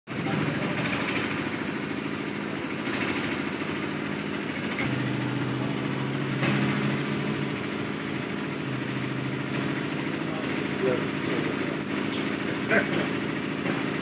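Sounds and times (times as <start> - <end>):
engine idling: 0.1 - 14.0.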